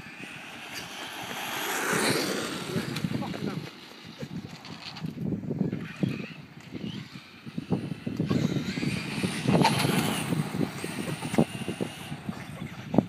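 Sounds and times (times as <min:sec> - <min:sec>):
electric motor high whine: 0:00.0 - 0:13.0.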